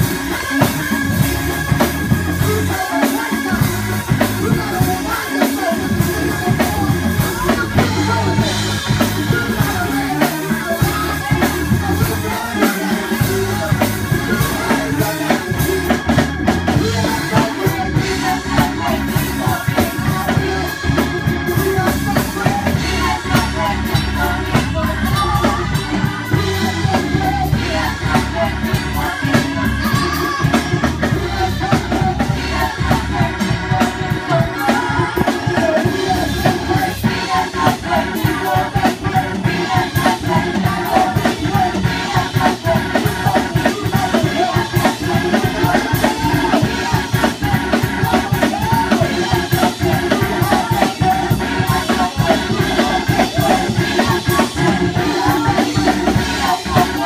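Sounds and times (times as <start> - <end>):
drum kit and bass beat: 0.0 - 57.0
person singing: 0.0 - 57.0
worship band playing: 0.0 - 57.0.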